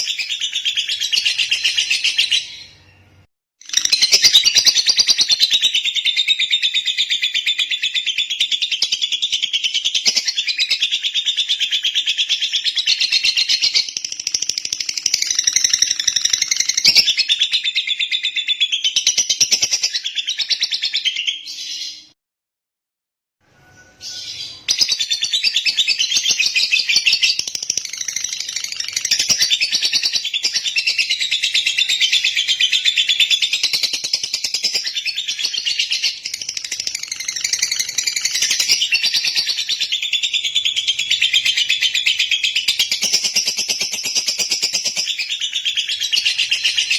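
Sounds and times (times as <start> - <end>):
lovebird chirping and trilling: 0.0 - 22.2, 23.6 - 46.9.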